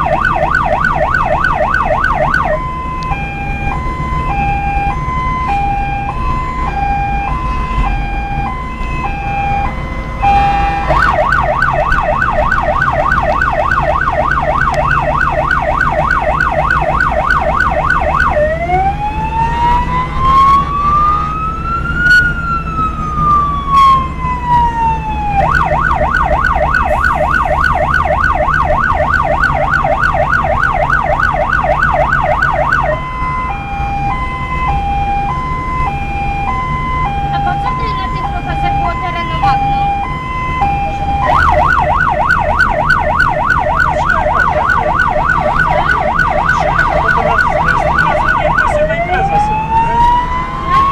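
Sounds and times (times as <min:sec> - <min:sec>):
electronic emergency siren: 0:00.0 - 0:50.9
vehicle engine and road rumble: 0:00.0 - 0:50.9.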